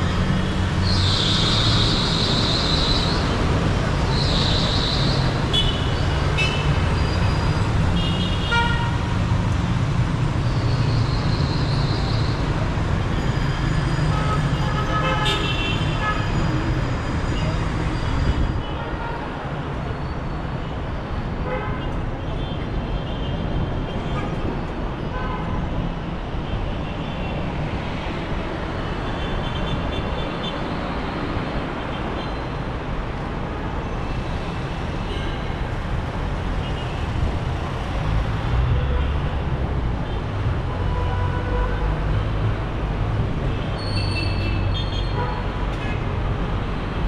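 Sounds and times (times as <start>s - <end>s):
traffic engines running: 0.0s - 47.0s.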